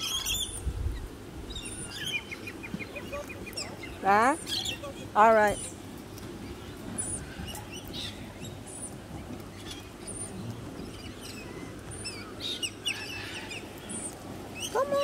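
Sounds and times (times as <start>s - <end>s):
birds chirping: 0.0s - 15.0s
low steady background noise: 0.0s - 15.0s.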